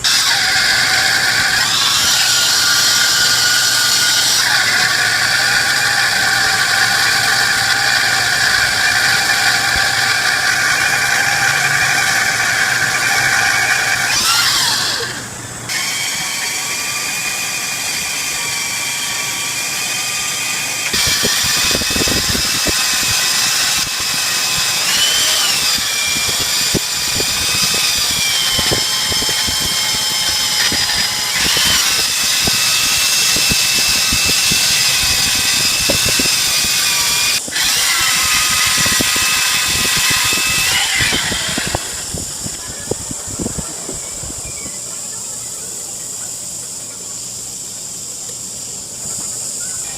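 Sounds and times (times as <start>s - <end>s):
machine tool whining: 0.0s - 45.4s.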